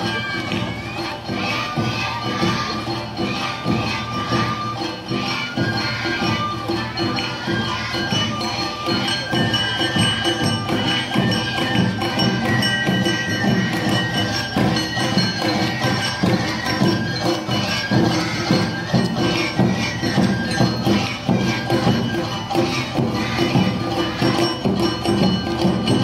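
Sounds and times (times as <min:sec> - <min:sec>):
bamboo flute: 0:00.0 - 0:26.0
drums: 0:00.0 - 0:26.0
shamisen: 0:00.0 - 0:26.0.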